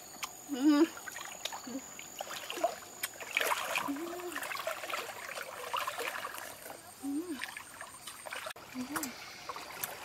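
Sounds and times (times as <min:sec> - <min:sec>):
water splashing from wading: 0:00.8 - 0:10.0.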